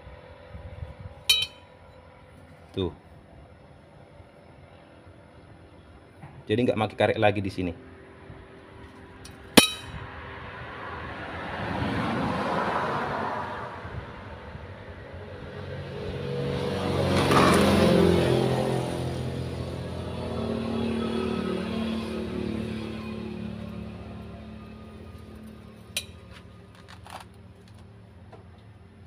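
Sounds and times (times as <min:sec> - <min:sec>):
road vehicles passing: 0:00.0 - 0:29.0.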